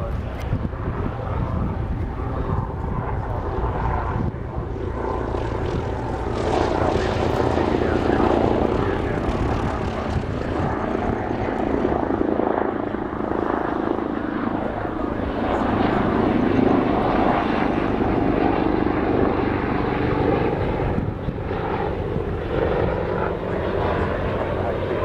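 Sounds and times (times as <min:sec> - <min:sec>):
propeller aircraft engines droning: 0:00.0 - 0:25.0.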